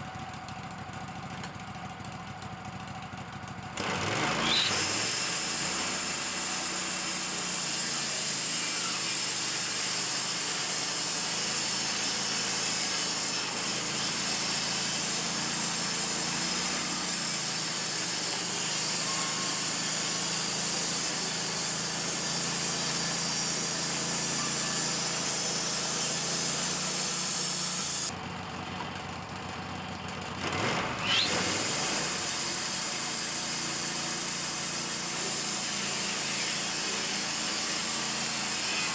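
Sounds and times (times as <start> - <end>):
sawmill motor running: 0.0 - 38.9
band saw blade cutting log: 3.8 - 28.1, 30.4 - 38.9.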